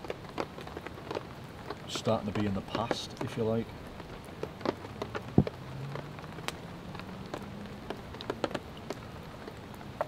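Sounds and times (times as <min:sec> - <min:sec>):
rain dripping on a tarp: 0:00.0 - 0:10.0.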